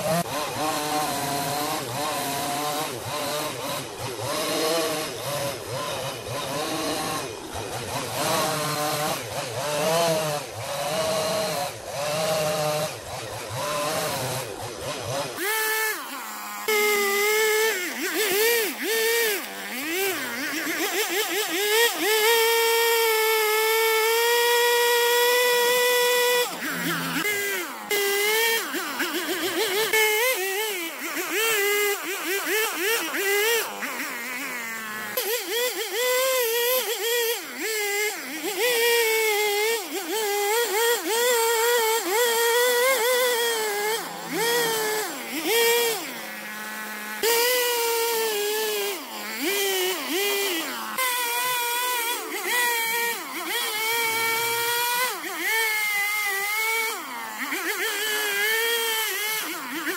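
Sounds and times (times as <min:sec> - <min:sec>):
power saw cutting wood: 0:00.0 - 0:59.9.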